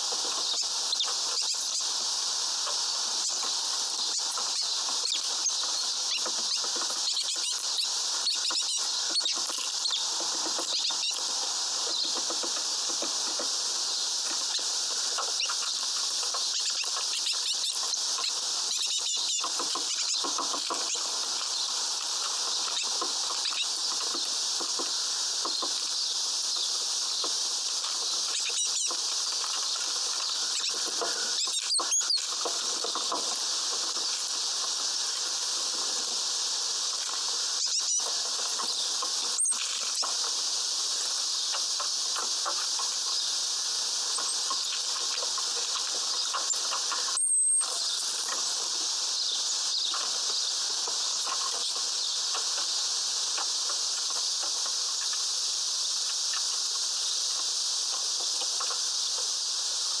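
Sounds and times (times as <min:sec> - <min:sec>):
birds pecking and scratching: 0:00.0 - 0:59.3
steady high hiss: 0:00.0 - 1:00.0.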